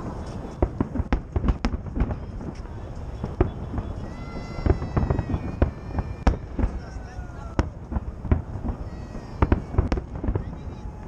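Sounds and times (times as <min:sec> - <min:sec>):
fireworks bangs and crackles: 0:00.0 - 0:11.0
crowd voices: 0:02.0 - 0:11.0.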